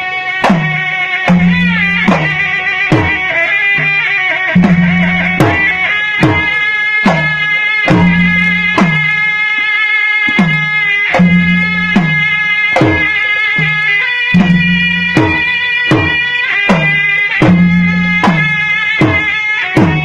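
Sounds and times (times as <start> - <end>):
drums striking steady beat: 0.0 - 20.0
reedy oboe melody: 0.0 - 20.0.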